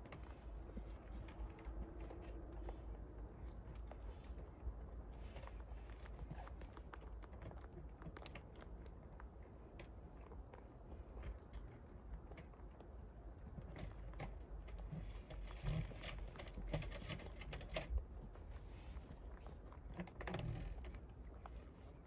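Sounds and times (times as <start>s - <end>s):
low steady rumble: 0.0s - 22.0s
rabbits chewing crunches: 0.0s - 22.0s.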